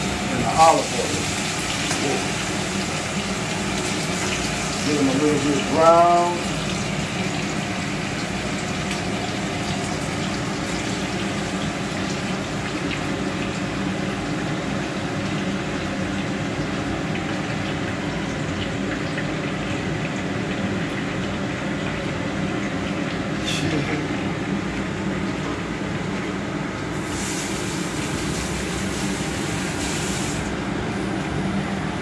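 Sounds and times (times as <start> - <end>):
meat sizzling in oil: 0.0 - 30.8.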